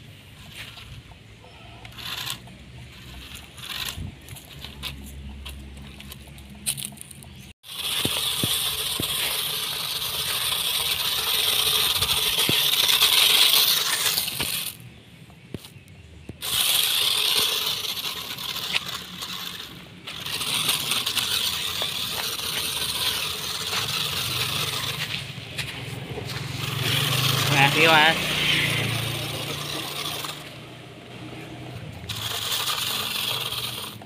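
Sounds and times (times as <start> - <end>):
toy truck driving over dry leaves: 0.0 - 34.0
toy truck tyres churning grain: 0.0 - 34.0.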